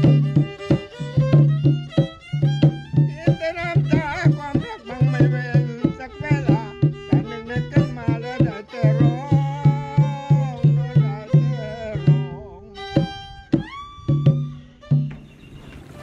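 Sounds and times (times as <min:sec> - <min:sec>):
hand drum beat: 0:00.0 - 0:15.4
violin melody: 0:00.0 - 0:16.0.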